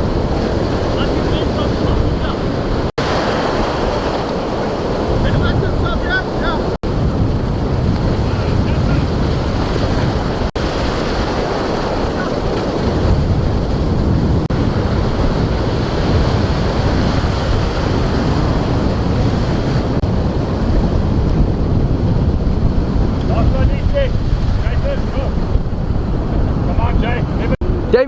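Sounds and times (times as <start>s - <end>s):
breaking surf: 0.0s - 28.0s
wind rumbling on microphone: 0.0s - 28.0s.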